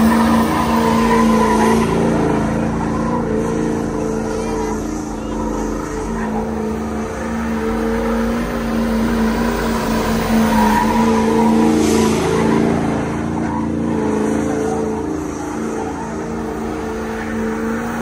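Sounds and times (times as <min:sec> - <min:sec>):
tires squealing: 0:00.0 - 0:18.0
truck engine revving high: 0:00.0 - 0:18.0.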